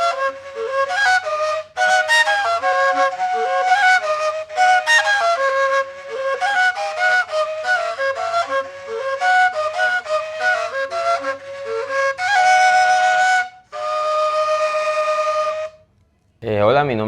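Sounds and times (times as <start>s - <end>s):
duct flute melody: 0.0s - 16.0s.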